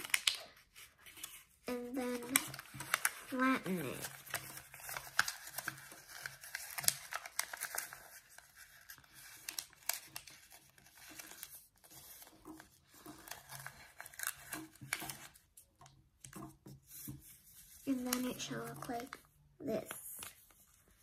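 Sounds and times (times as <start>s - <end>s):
paper crinkling and rustling: 0.0s - 21.0s.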